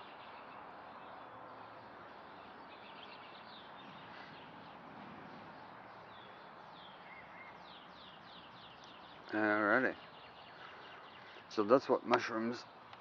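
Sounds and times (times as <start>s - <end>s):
faint birds chirping: 0.0s - 13.0s
outdoor background hiss: 0.0s - 13.0s.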